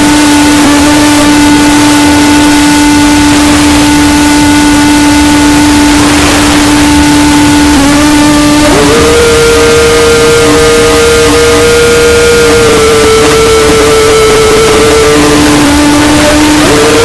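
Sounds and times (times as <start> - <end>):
distorted buzzing tone: 0.0 - 17.0.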